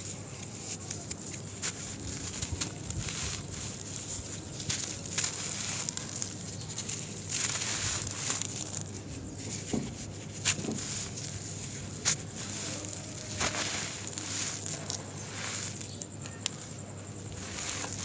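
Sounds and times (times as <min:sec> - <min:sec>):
sand and cement crumbling: 0:00.0 - 0:18.0
sharp crunches: 0:00.0 - 0:18.0
grains pouring onto sand: 0:01.4 - 0:09.2, 0:10.4 - 0:18.0.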